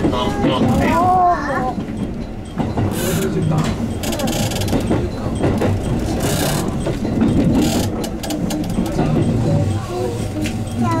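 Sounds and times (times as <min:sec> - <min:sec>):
wheels clicking over rail joints: 0:00.0 - 0:09.7
train low rumble: 0:00.0 - 0:11.0.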